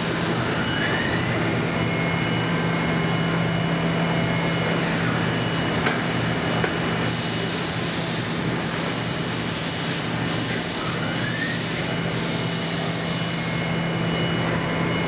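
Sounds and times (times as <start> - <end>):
milling machine whine and hum: 0.0 - 15.0.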